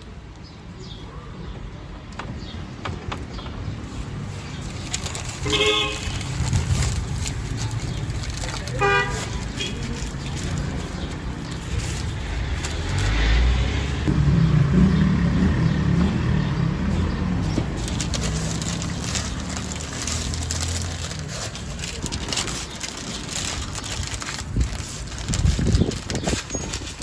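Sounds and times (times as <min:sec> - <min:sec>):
motor vehicle rumbling: 0:00.0 - 0:27.0
street noise: 0:00.0 - 0:27.0.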